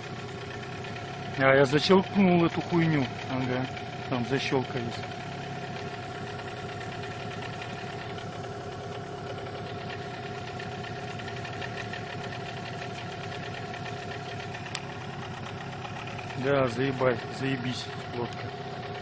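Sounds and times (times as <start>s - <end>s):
outboard boat motor running: 0.0s - 19.0s.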